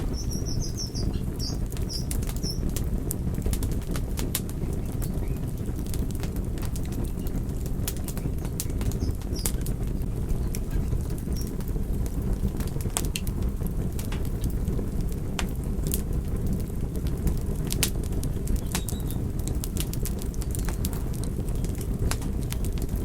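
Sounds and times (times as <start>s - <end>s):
flames rushing: 0.0s - 23.0s
wood crackling and popping: 0.0s - 23.0s.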